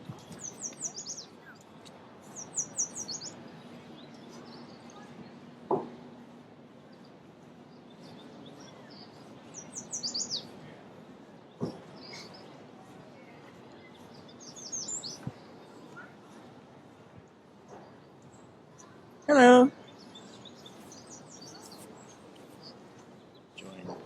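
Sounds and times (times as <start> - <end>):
songbird singing: 0.0 - 10.6, 13.6 - 16.1, 17.7 - 24.0.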